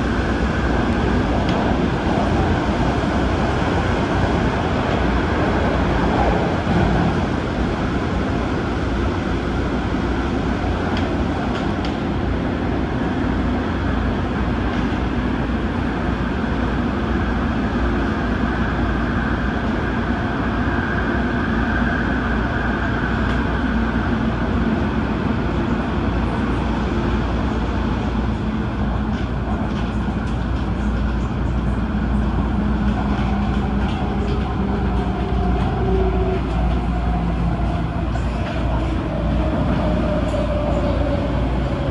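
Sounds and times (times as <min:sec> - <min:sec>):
train wheels rumbling: 0:00.0 - 0:41.9.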